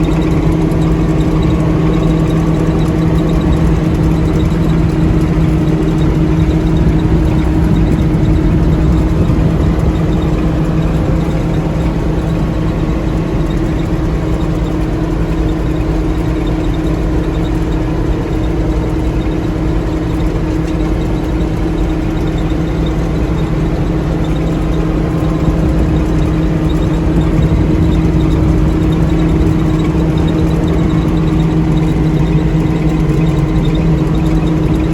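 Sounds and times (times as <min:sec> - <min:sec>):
diesel engine droning: 0:00.0 - 0:34.9.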